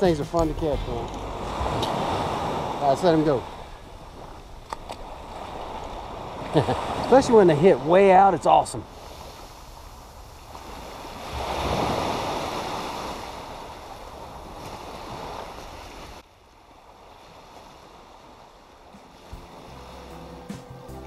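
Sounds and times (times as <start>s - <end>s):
surf washing on sandy beach: 0.0s - 20.5s.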